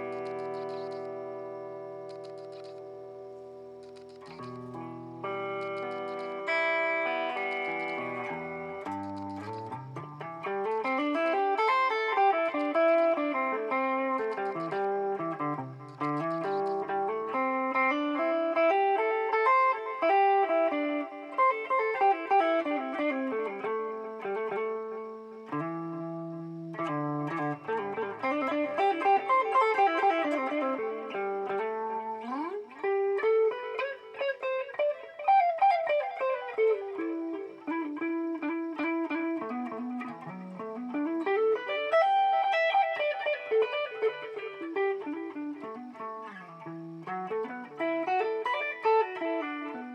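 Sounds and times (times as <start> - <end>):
electric guitar with delay echoes: 0.0 - 49.9.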